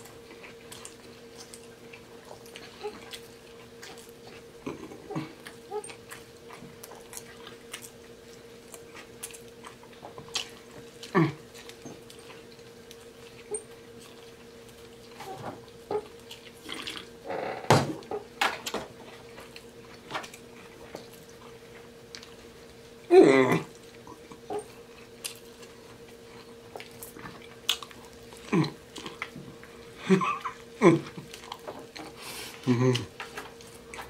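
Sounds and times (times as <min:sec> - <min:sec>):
chewing and lip-smacking: 0:00.0 - 0:17.2, 0:18.0 - 0:34.0
faint steady hum: 0:00.0 - 0:34.0.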